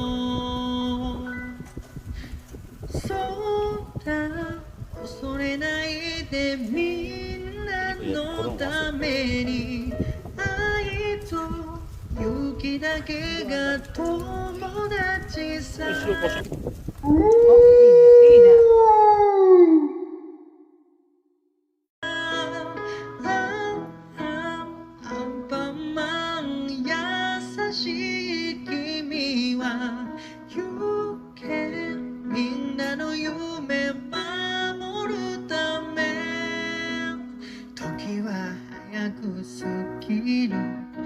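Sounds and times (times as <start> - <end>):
person singing: 0.0 - 20.6, 22.0 - 41.0.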